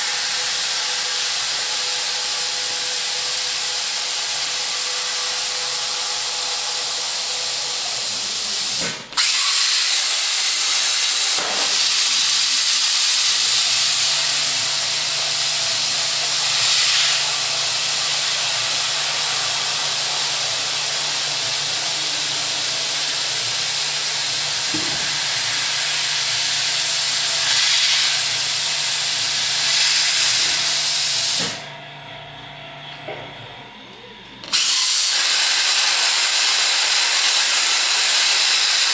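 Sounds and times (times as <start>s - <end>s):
plasma cutter torch hissing: 0.0s - 31.7s, 34.4s - 38.9s.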